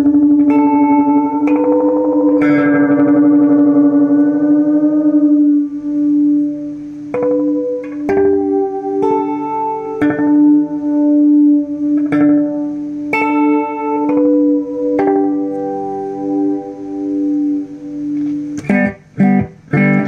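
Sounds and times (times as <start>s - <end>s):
guitar picked notes with echo: 0.0s - 20.0s.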